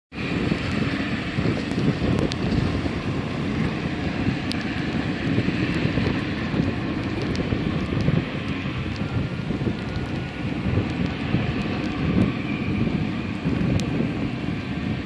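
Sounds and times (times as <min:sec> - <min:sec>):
distant jet engines rumbling: 0:00.1 - 0:15.0
wind buffeting microphone: 0:00.1 - 0:15.0.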